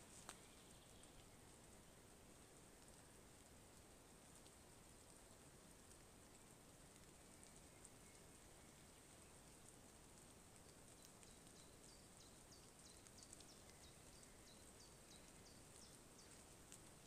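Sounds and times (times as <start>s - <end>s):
faint hiss of rain: 0.0s - 17.0s.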